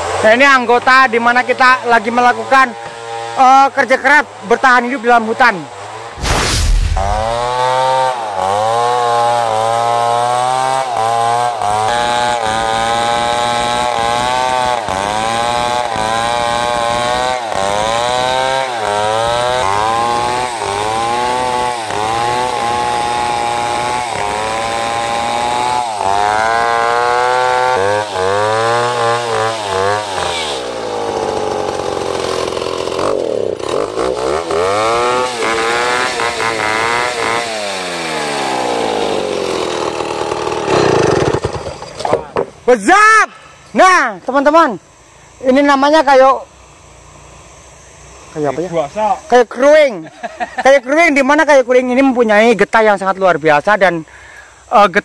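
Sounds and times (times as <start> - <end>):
chainsaw cutting log: 0.0 - 50.6.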